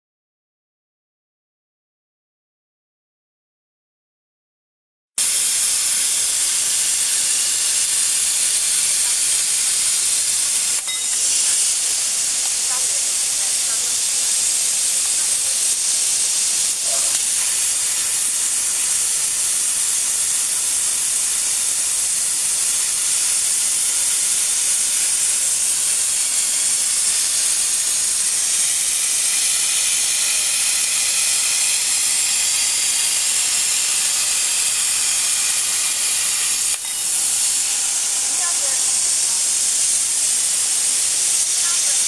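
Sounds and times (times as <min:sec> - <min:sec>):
plasma cutting torch hissing: 0:05.2 - 0:42.0.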